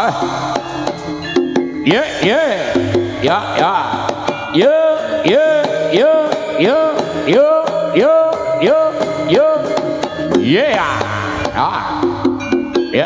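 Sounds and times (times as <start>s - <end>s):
drums and percussion: 0.0s - 13.0s
sliding melodic phrase: 1.8s - 13.0s.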